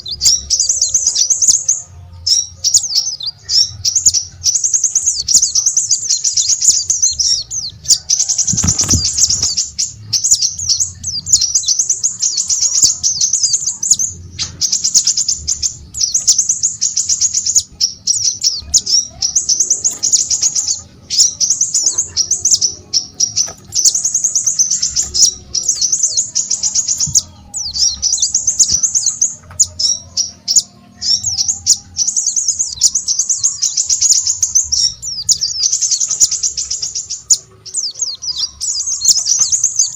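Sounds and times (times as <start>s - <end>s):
songbird twittering: 0.0s - 39.9s.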